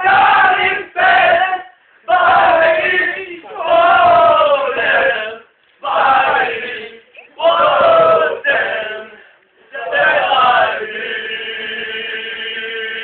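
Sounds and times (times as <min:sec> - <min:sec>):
group of voices chanting: 0:00.0 - 0:13.0.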